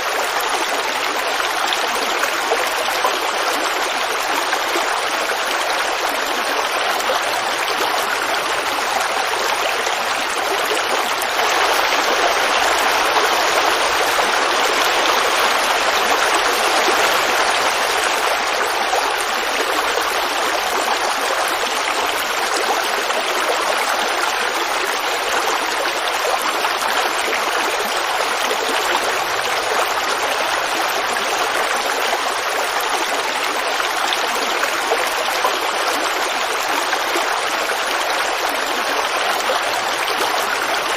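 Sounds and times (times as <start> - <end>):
creek water babbling over rocks: 0.0 - 40.9.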